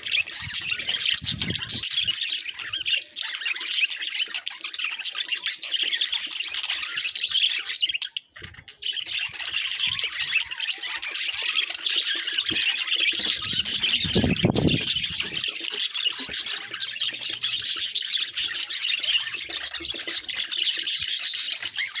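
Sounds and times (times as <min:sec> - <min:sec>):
budgerigars chattering and chirping: 0:00.0 - 0:22.0.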